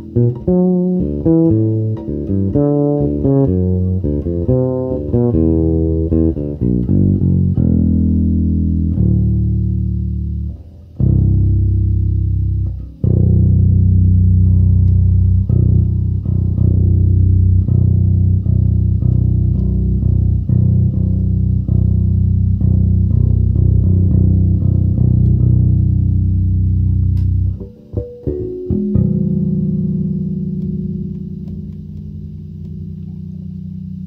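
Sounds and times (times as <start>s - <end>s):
fretless bass plucked fingerstyle: 0.0s - 34.0s.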